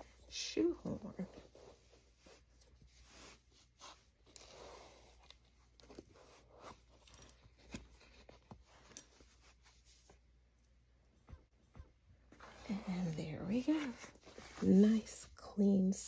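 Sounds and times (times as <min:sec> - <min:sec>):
shoe rustling and scraping: 0:00.8 - 0:10.4, 0:11.2 - 0:15.6.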